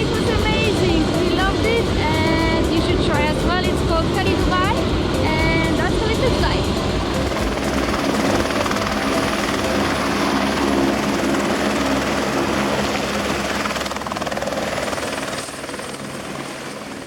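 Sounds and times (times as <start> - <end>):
helicopter rotor and engine drone: 0.0 - 17.0.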